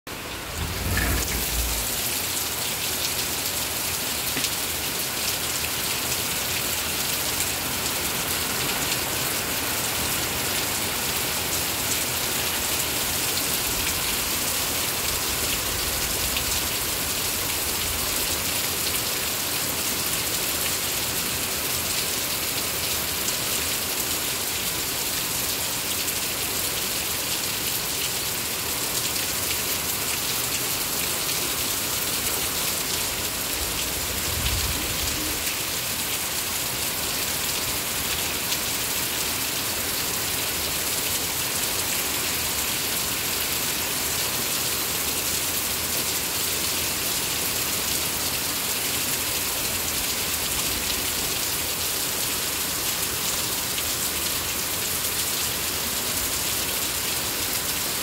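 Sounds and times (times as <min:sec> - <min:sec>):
heavy rain with hail: 0:00.1 - 0:58.0.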